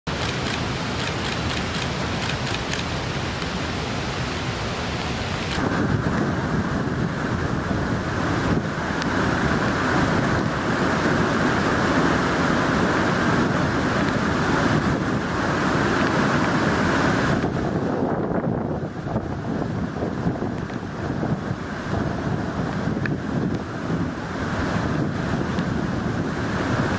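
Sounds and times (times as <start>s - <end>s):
waterfall rushing into rapids: 0.1s - 26.9s.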